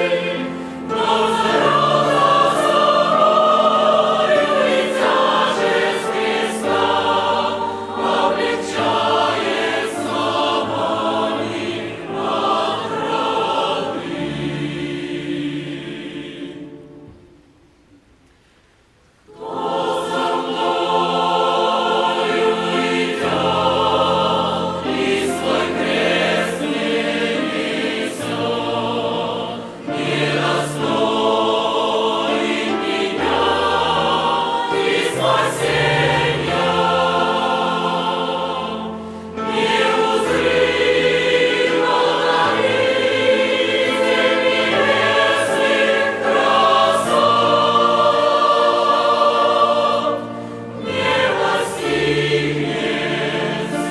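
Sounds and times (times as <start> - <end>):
choir singing a hymn: 0.0 - 17.8, 19.2 - 53.9.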